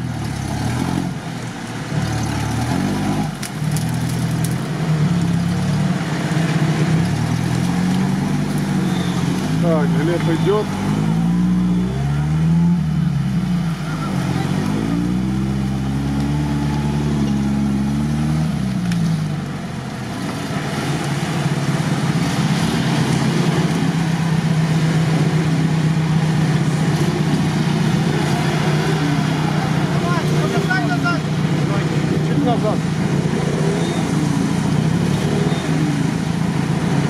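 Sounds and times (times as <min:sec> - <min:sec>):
engine drone labouring in mud: 0:00.0 - 0:37.0
jeep engine revving: 0:00.0 - 0:37.0.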